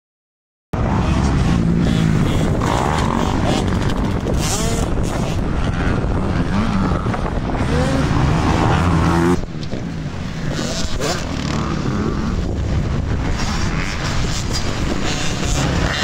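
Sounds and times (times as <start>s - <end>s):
dirt bike engines revving: 0.8s - 16.0s
wind rumbling on microphone: 0.8s - 16.0s.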